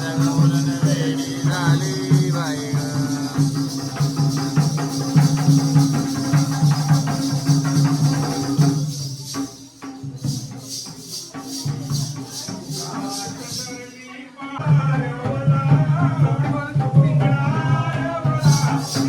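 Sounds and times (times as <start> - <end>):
drum beats: 0.0 - 13.9, 14.6 - 19.0
jingling percussion: 0.0 - 14.1, 14.7 - 19.0.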